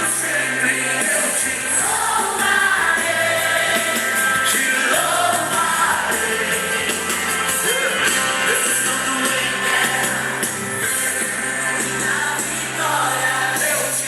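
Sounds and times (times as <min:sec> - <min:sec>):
singing voices with band: 0:00.0 - 0:14.0.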